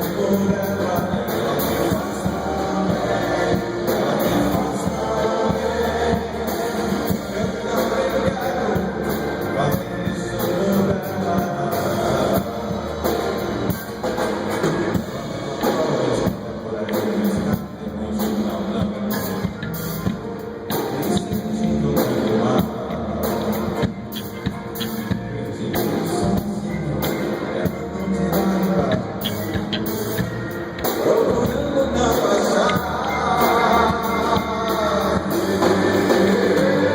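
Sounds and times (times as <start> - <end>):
band playing pop-rock music: 0.0 - 36.9.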